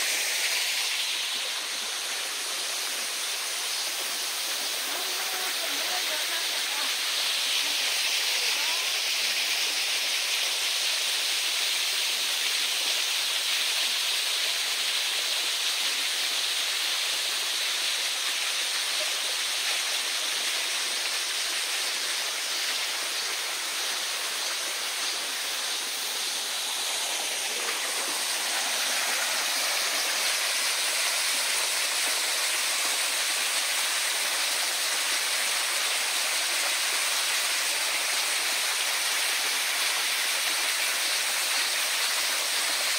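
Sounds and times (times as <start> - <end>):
water rushing over rocks: 0.0 - 42.9.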